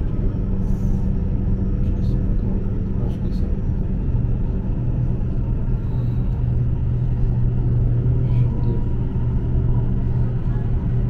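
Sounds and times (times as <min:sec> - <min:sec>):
constant hum: 0:00.0 - 0:11.0
train rumbling: 0:00.0 - 0:11.0.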